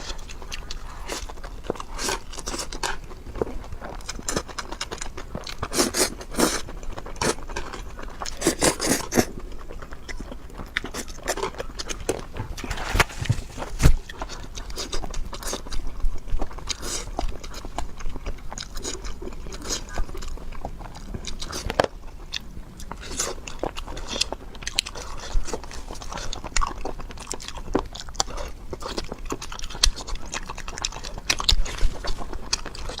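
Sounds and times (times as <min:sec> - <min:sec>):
food crunching: 0:00.0 - 0:33.0
person chewing food: 0:00.0 - 0:33.0.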